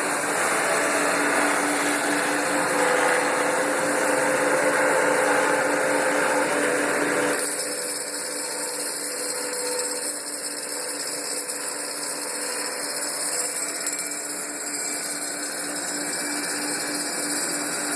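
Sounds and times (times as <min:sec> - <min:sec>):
wood lathe running: 0:00.0 - 0:17.9.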